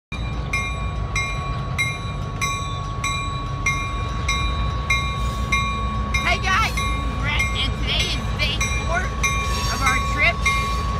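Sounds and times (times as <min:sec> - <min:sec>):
bell ringing: 0:00.1 - 0:10.9
diesel locomotive running: 0:00.1 - 0:10.9.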